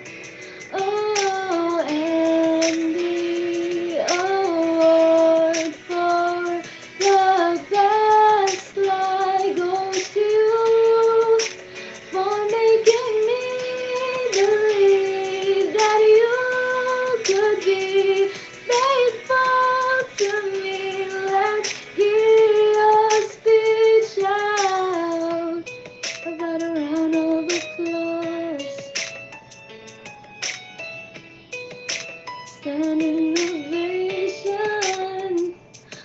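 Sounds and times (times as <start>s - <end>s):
woman singing: 0.6s - 28.9s, 32.6s - 36.0s.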